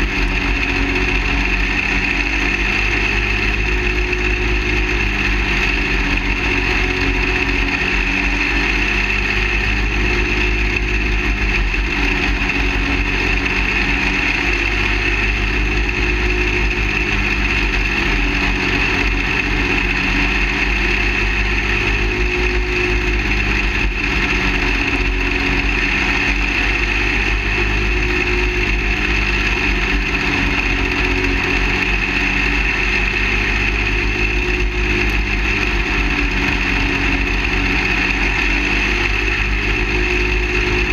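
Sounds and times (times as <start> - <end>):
race kart engine: 0.0 - 40.9.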